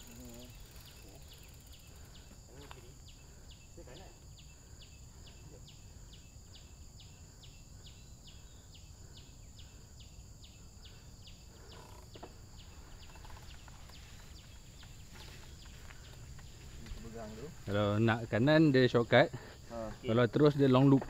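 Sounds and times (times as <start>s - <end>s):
high-pitched insect drone: 0.0s - 20.7s.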